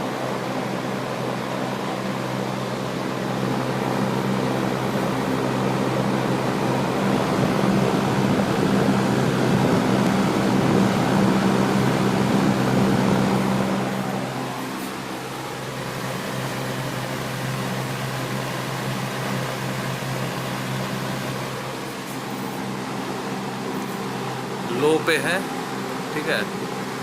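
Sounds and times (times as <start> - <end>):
air rushing from fan: 0.0 - 27.0
fan motor humming: 0.0 - 27.0.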